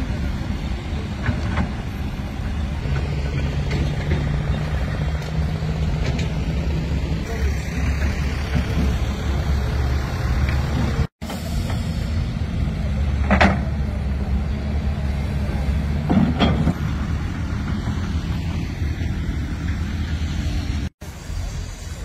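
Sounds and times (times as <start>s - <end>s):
diesel excavator engine running: 0.0s - 22.0s.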